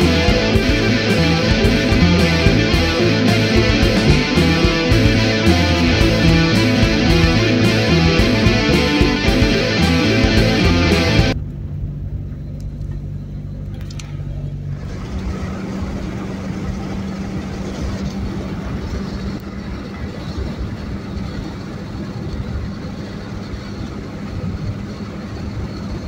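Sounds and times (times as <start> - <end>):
car engine hum: 0.0 - 26.0
road noise: 0.0 - 26.0.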